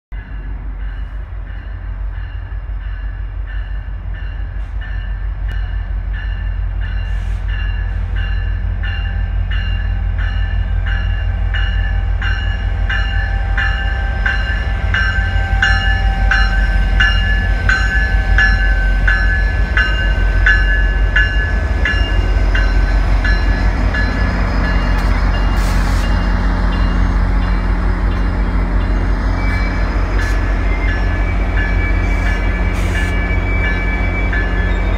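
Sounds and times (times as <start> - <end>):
diesel locomotive engine rumble: 0.1 - 34.9
locomotive bell ringing: 0.2 - 34.9.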